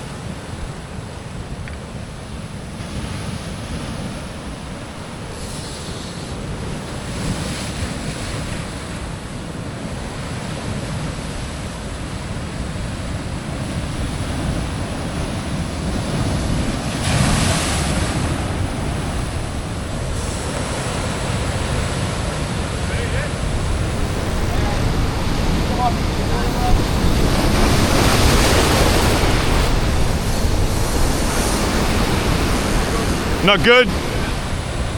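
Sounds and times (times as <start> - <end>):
surf breaking against rocks: 0.0 - 34.9
wind buffeting microphone: 0.0 - 34.9.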